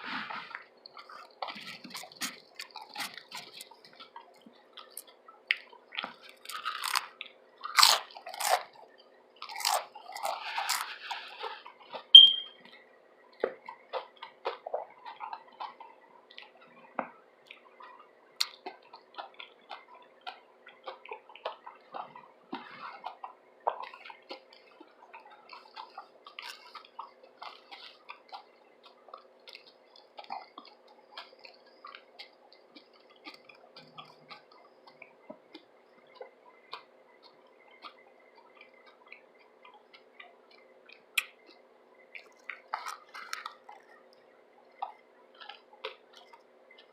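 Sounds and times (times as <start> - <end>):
chewing with wet mouth clicks: 0.5 - 46.9.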